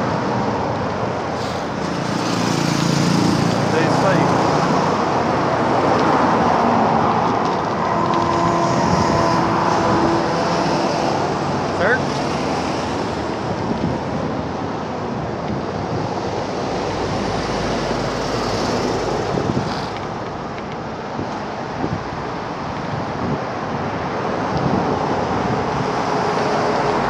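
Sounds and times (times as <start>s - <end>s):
wind noise on microphone: 4.4s - 27.0s.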